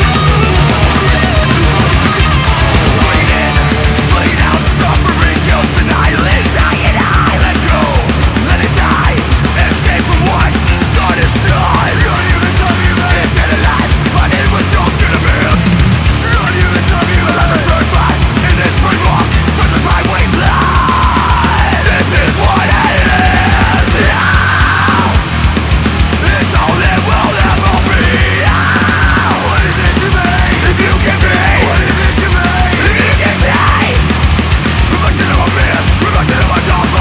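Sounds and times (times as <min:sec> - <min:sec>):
heavy metal song by full band: 0:00.0 - 0:37.0.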